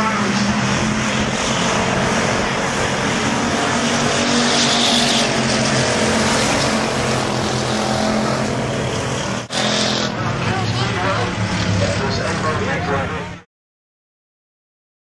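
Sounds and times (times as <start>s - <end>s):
race car engines running hard: 0.0s - 13.4s.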